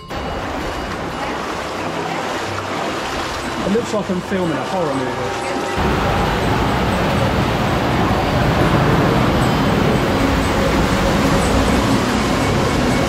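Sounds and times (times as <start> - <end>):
loud rush of flowing water: 0.0 - 13.0.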